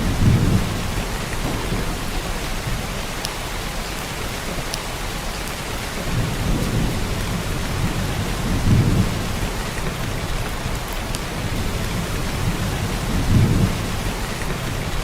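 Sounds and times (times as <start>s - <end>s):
distant thunder rumble: 0.0s - 4.7s, 5.8s - 15.0s
heavy rain hiss: 0.0s - 15.0s.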